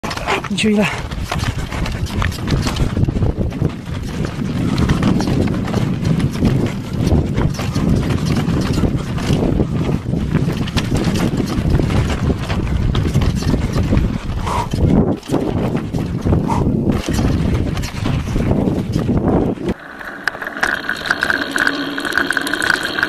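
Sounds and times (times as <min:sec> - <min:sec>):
bike tyres crunching on rock: 0:00.0 - 0:19.8
bike rattling clatter: 0:00.0 - 0:23.0.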